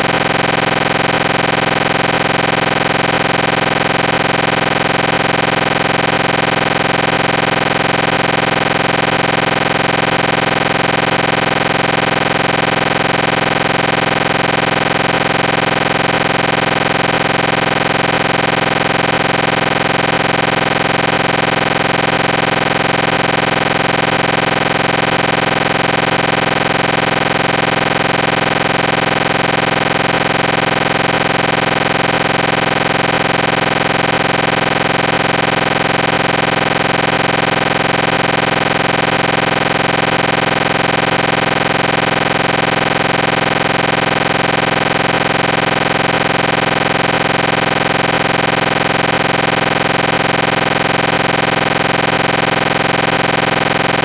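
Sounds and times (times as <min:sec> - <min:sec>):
loud droning noise with tones: 0:00.0 - 0:54.0.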